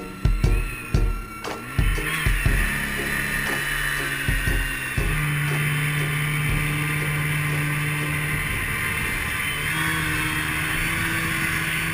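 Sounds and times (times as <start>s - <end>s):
snowmobile engine running: 0.0s - 11.9s
track and wind noise: 0.0s - 11.9s.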